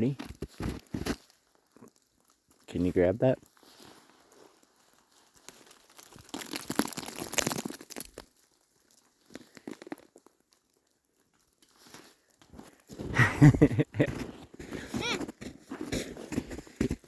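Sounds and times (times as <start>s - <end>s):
crunching of icy snow: 0.0s - 17.0s.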